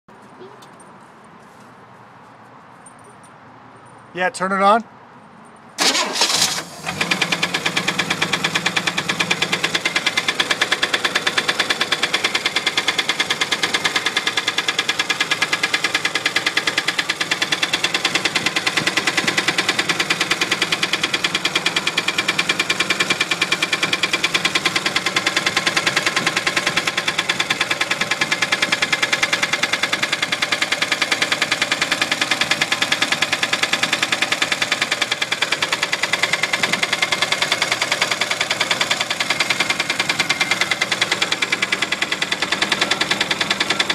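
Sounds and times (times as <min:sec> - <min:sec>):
car engine idling with knock: 0:06.9 - 0:43.9.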